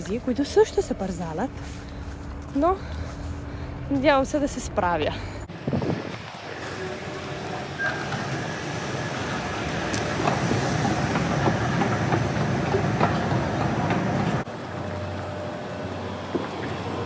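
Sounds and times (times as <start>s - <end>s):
underground train rumble: 0.0s - 17.0s.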